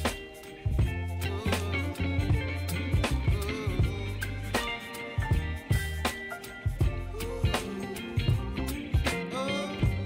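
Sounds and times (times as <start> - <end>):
bass line: 0.0 - 10.0
drum beat: 0.0 - 10.0.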